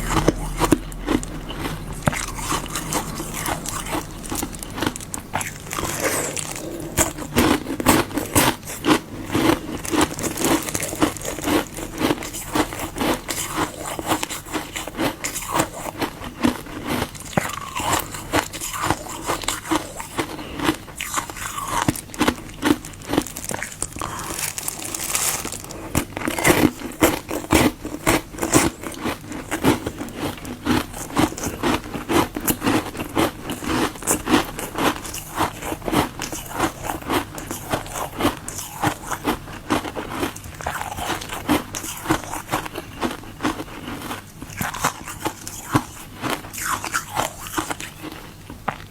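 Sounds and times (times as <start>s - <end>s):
ice being bitten and chewed: 0.0s - 48.9s.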